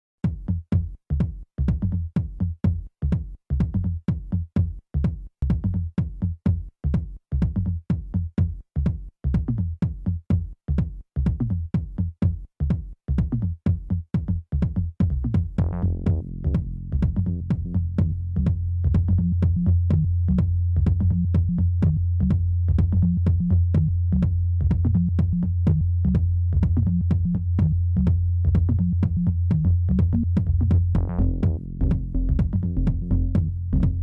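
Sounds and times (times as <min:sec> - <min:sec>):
electronic music with bass-heavy beat: 0:00.2 - 0:34.0.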